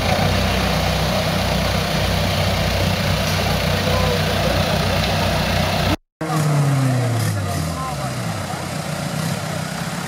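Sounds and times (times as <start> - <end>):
engine running near idle: 0.0 - 10.0.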